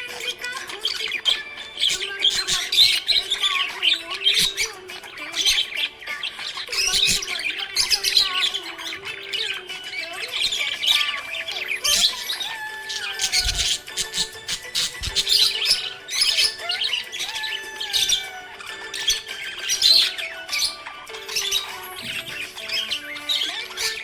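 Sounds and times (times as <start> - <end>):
budgerigar chirping and warbling: 0.0 - 24.0.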